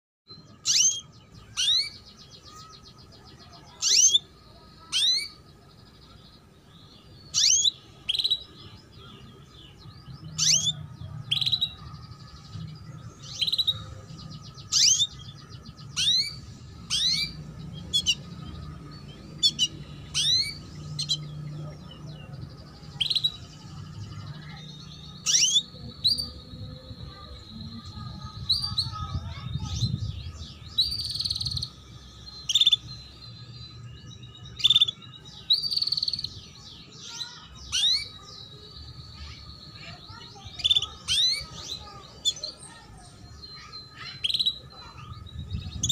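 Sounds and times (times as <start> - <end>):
faint bird twittering: 0.3 - 45.9
canary calls: 0.5 - 6.5, 7.2 - 9.5, 10.2 - 12.3, 13.1 - 29.9, 32.4 - 32.9, 34.6 - 36.4, 37.0 - 45.1.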